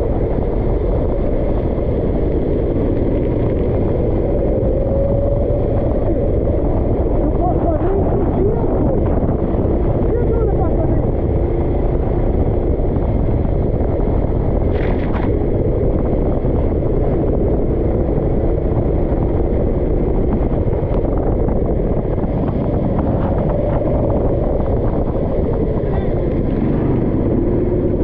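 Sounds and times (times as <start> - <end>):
kart engine running: 0.0 - 28.0
wind buffeting microphone: 0.0 - 28.0.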